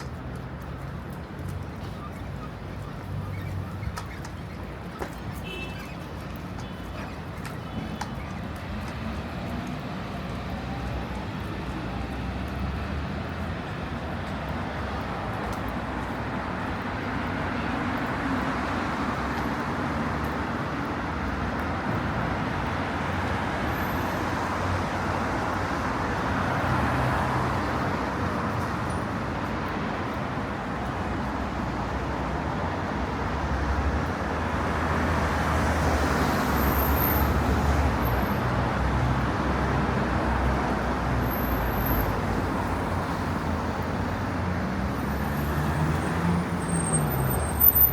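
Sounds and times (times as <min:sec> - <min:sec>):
vehicles passing: 0:00.0 - 0:47.9.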